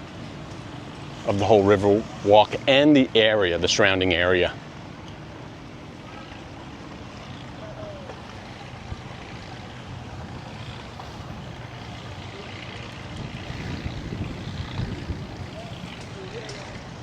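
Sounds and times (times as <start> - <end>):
distant motor droning: 0.0 - 17.0.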